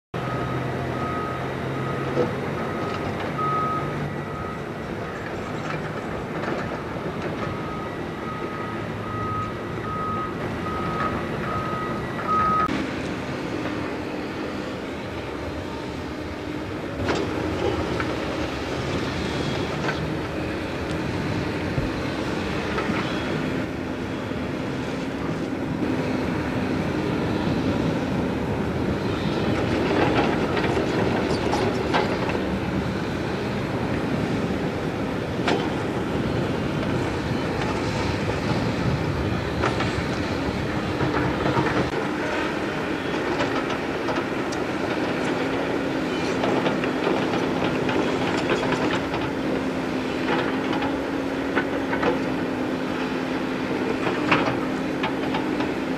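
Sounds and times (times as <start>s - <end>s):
excavator engine and hydraulics hum: 0.2s - 55.9s.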